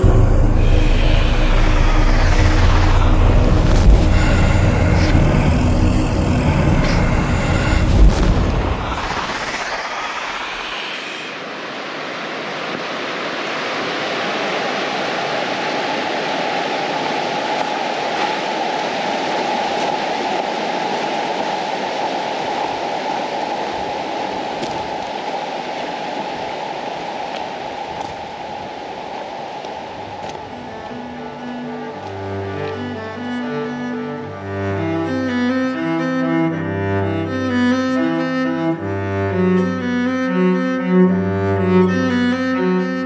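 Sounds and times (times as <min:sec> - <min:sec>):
stream rushing over stones: 0:00.0 - 0:35.4.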